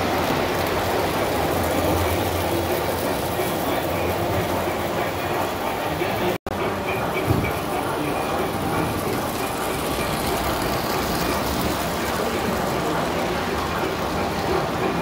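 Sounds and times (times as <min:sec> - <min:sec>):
toy train rolling rumble: 0:00.0 - 0:15.0.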